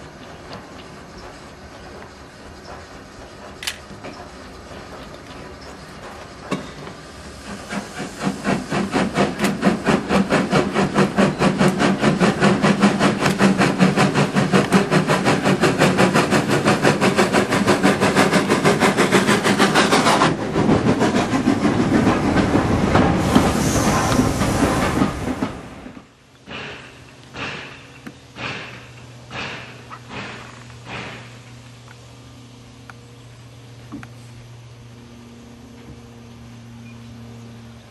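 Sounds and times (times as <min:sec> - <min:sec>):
steam hiss: 0:00.0 - 0:31.7
steam locomotive exhaust beats: 0:00.0 - 0:37.9
train rumbling past: 0:00.0 - 0:37.9.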